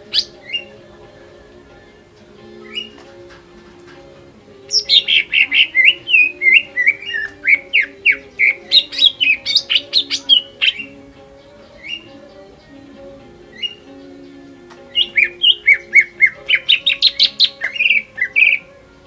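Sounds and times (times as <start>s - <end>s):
bird chirp: 1.7s - 19.0s.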